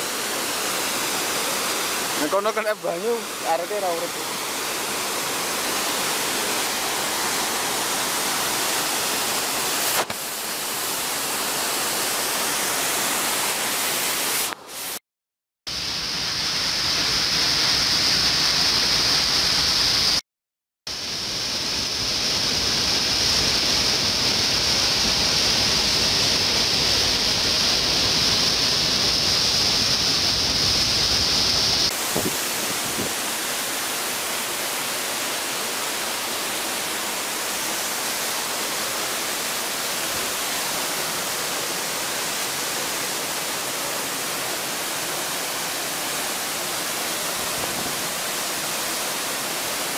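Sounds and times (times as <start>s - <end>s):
waterfall rushing: 0.0s - 14.6s, 21.1s - 49.9s
steady high hiss: 0.0s - 15.0s, 15.7s - 20.2s, 20.9s - 49.9s.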